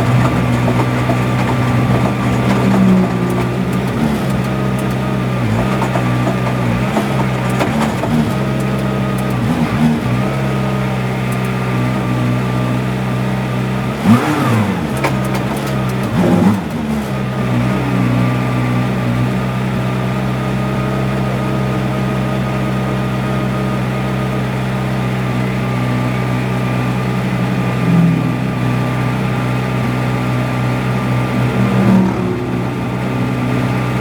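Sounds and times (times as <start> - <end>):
race car engine idling: 0.0 - 34.0.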